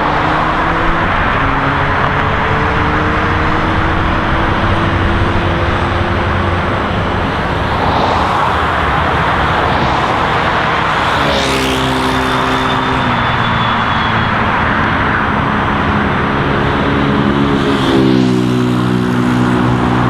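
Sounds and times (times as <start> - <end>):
dense road traffic: 0.0 - 20.0
vehicle passing close: 0.0 - 20.0.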